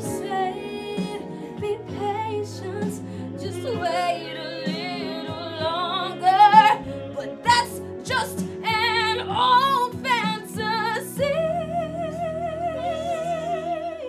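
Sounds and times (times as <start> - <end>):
woman singing with vibrato: 0.0 - 14.0.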